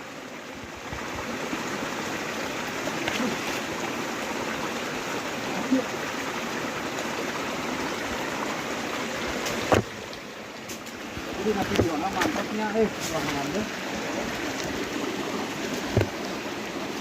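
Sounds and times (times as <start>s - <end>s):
stream water flowing: 0.0s - 17.0s.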